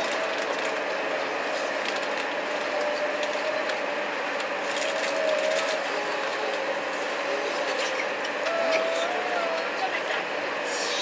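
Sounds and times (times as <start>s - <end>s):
train car hiss and rattle: 0.0s - 11.0s.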